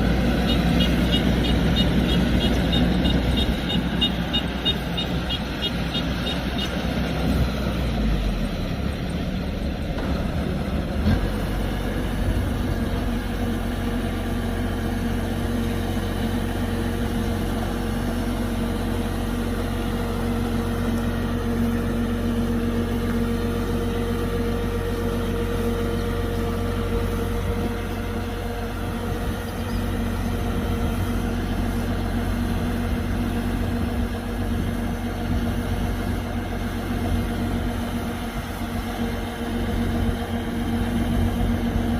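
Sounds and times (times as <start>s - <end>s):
combine harvester diesel engine drone: 0.0s - 41.9s.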